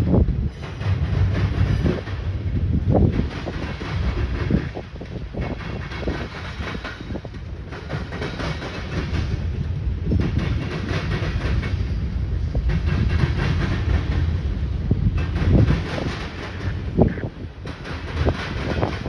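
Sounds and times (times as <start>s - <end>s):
freight train rumbling: 0.0s - 19.0s
wheels clacking over rail joints: 0.0s - 19.0s.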